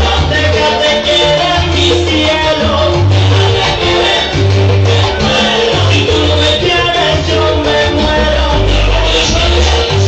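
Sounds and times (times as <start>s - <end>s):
salsa dance music with heavy bass: 0.0s - 10.0s.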